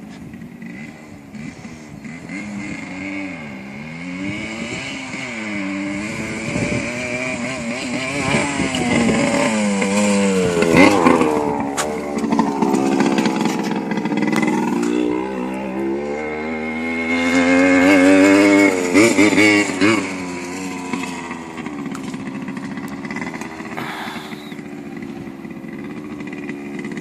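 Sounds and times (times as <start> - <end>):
dirt bike engine revving: 0.6 - 27.0.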